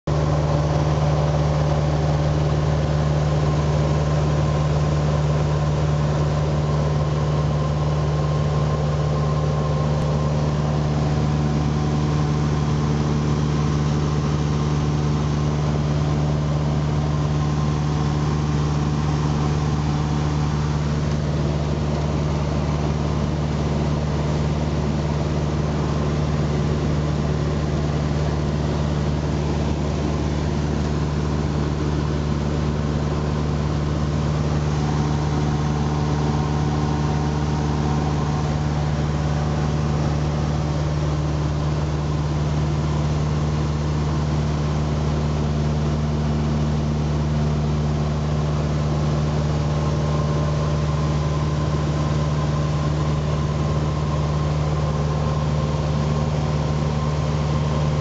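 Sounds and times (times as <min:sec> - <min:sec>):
small plane engine droning: 0:00.1 - 0:58.0.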